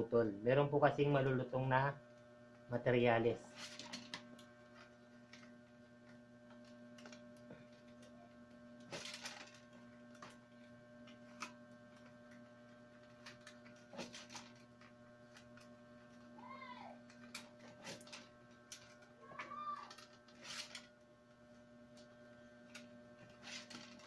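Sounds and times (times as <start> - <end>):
steady electrical hum: 0.0 - 24.0
wicker crackling while woven: 3.5 - 24.0.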